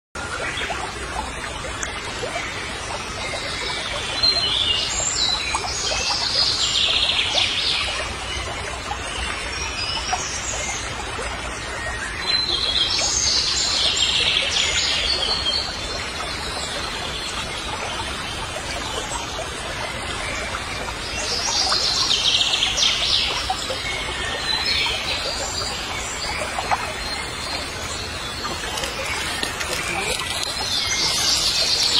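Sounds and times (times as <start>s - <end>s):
birds chirping: 0.4s - 31.9s.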